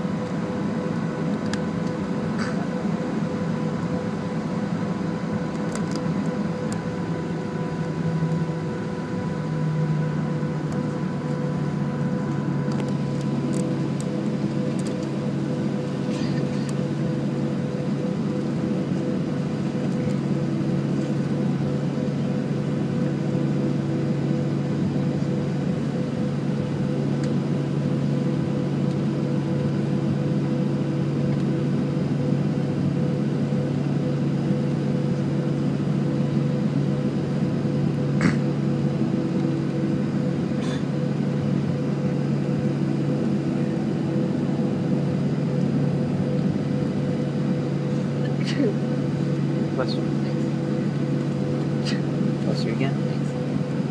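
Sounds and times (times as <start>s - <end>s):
air-conditioning rumble: 0.0s - 53.9s
constant hum: 0.0s - 53.9s
jet engines idling: 0.0s - 53.9s.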